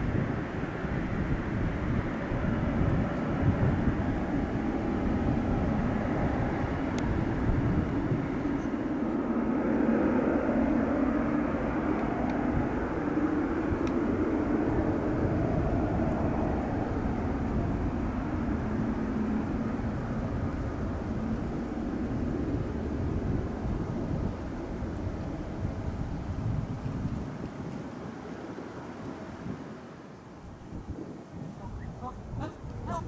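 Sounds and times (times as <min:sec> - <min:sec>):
faint jet engine whine: 0:00.0 - 0:33.0
jet engines rumbling: 0:00.0 - 0:33.0.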